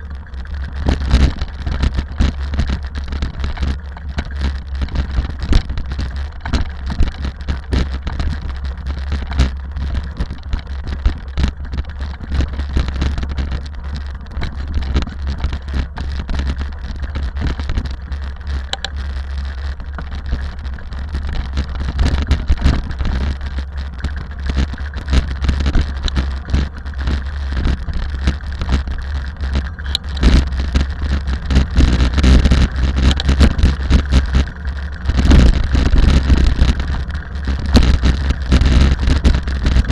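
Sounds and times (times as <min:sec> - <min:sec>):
dense rattling and ticking: 0:00.0 - 0:39.9
rally car engine rumble: 0:00.0 - 0:39.9.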